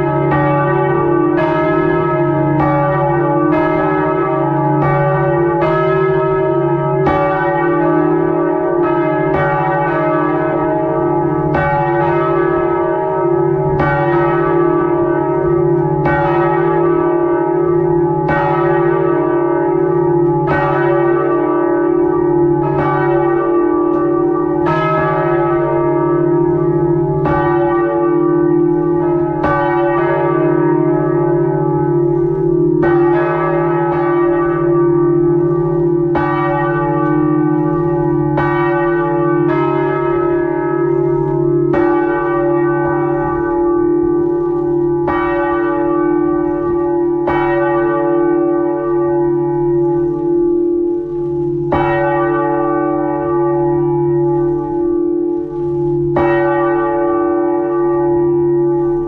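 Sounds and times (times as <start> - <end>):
hum of ringing bells: 0.0 - 59.0.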